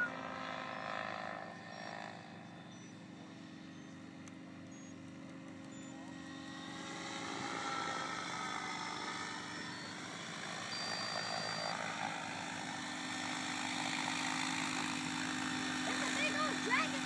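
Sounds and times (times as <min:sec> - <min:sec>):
rc helicopter rotor hum: 0:00.0 - 0:17.0.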